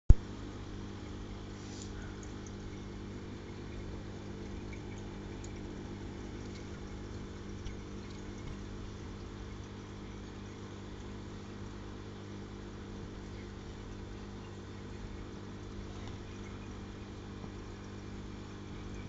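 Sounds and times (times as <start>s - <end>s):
aquarium pump humming: 0.1s - 19.0s.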